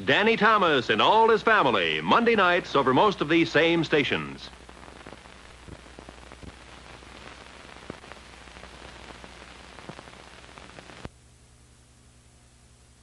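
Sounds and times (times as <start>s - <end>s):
scattered crackles: 0.0s - 11.2s
film soundtrack hiss: 0.0s - 13.0s.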